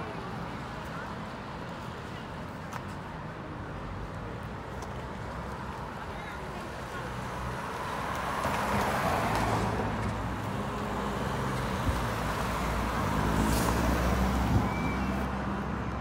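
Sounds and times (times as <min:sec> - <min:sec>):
cars passing: 0:00.0 - 0:16.0
traffic hum: 0:00.0 - 0:16.0.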